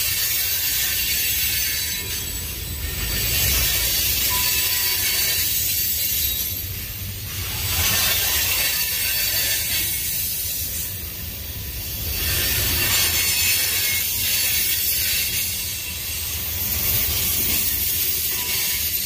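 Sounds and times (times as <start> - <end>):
hiss: 0.0 - 19.0
train wheels rumbling on rails: 0.0 - 19.0.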